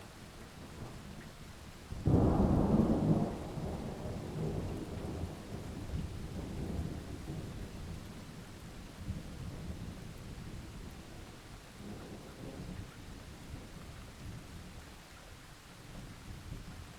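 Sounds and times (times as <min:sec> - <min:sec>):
heavy rain: 0:00.1 - 0:16.9.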